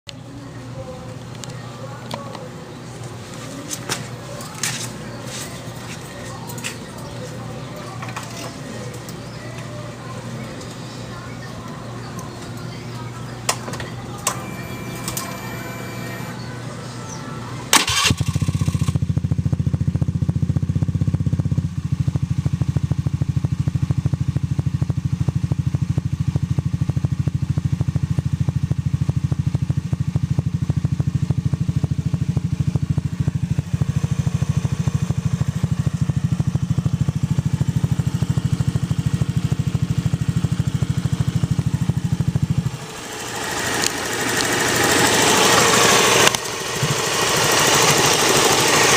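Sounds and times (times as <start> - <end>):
scooter engine idling with ticking: 0.1 - 16.3, 17.9 - 48.9.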